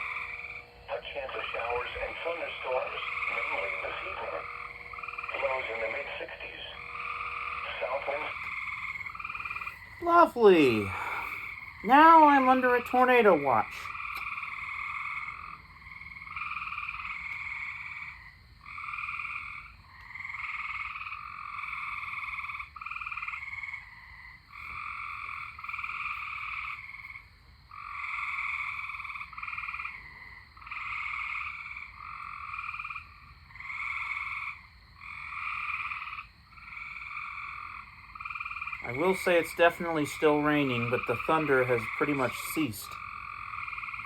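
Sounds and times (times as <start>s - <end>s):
frogs trilling: 0.0s - 44.0s.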